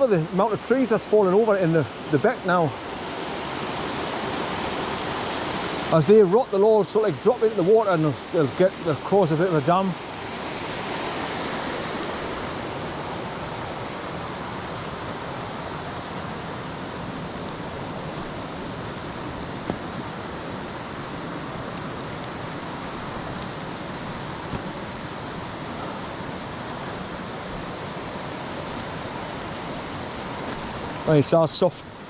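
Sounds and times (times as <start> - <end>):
fast-flowing water rushing: 0.0 - 32.0.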